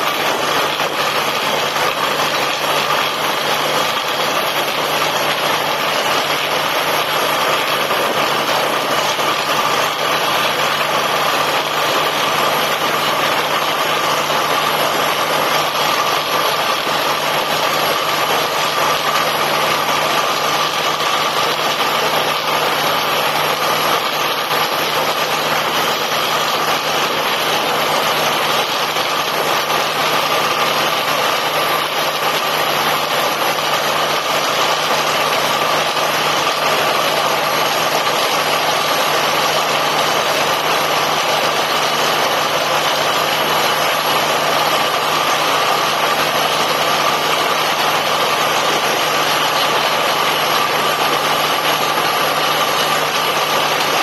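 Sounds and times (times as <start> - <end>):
drilling rig humming: 0.0 - 54.0.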